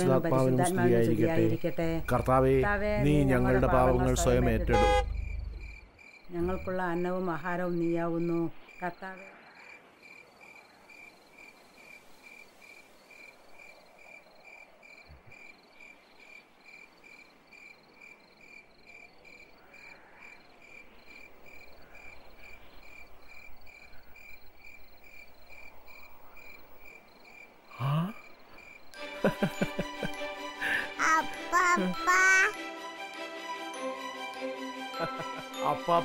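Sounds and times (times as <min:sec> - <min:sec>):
cricket chirping: 0:00.0 - 0:30.2.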